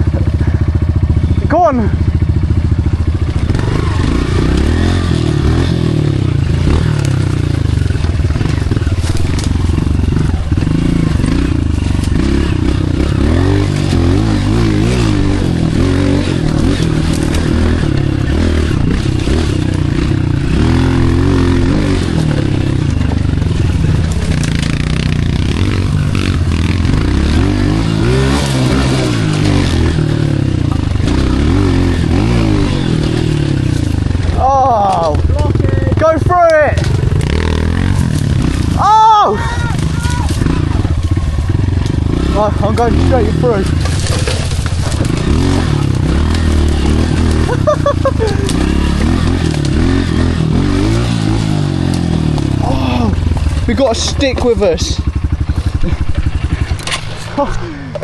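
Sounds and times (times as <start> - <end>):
small motorbike engine revving: 2.2 - 58.0
bike clattering over rough ground: 2.3 - 58.0.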